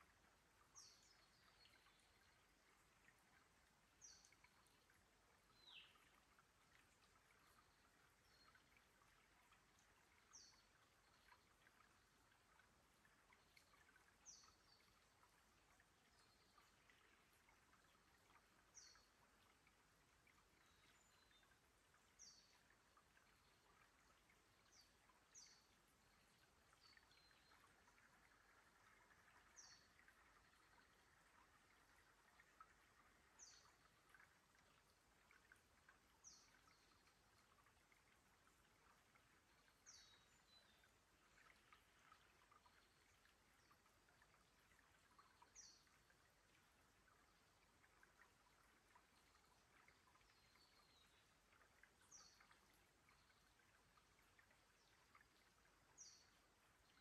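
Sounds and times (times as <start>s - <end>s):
water trickling over rocks: 0.0s - 57.0s.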